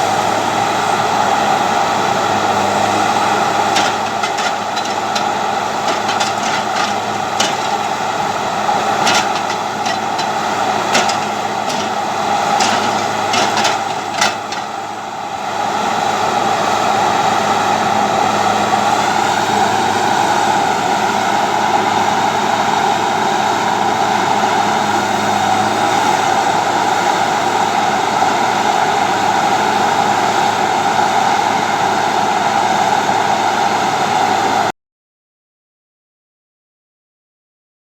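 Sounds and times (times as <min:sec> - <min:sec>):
diesel engine running: 0:00.0 - 0:34.7.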